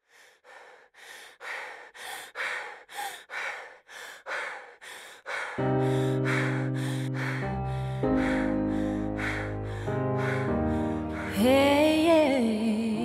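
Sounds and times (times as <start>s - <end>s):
person breathing hard: 0.0s - 11.6s.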